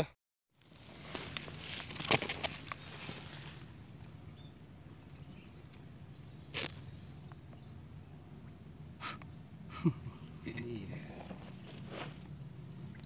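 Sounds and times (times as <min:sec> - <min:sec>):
high-pitched insect trill: 0:00.6 - 0:13.0.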